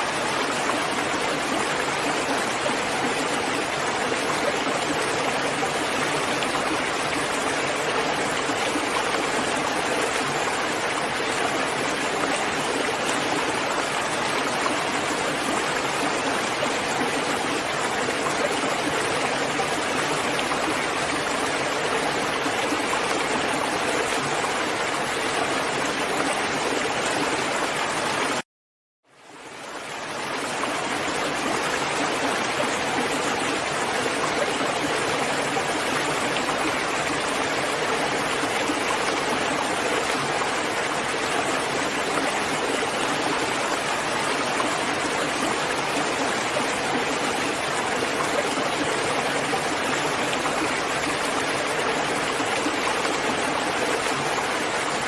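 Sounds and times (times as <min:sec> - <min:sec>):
steady rain: 0:00.0 - 0:28.4, 0:29.2 - 0:55.0.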